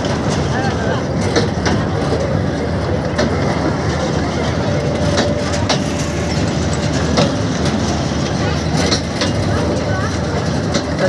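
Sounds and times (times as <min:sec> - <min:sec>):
ride clicks and rattles: 0:00.0 - 0:11.0
ride machinery rumbling: 0:00.0 - 0:11.0.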